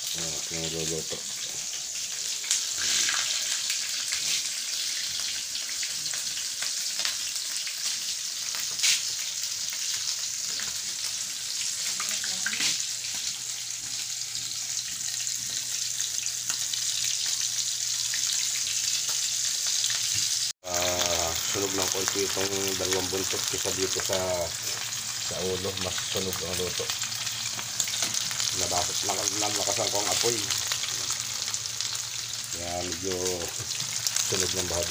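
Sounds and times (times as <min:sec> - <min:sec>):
fish deep-frying in hot oil: 0:00.0 - 0:34.9.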